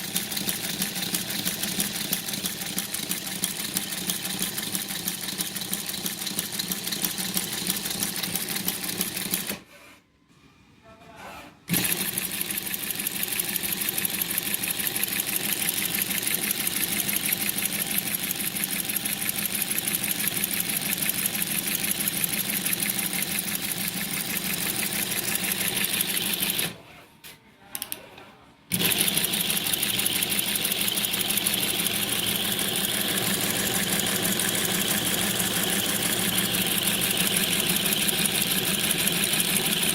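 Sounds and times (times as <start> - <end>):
sewing machine stitching: 0.0 - 9.7, 11.4 - 26.8, 28.7 - 39.9.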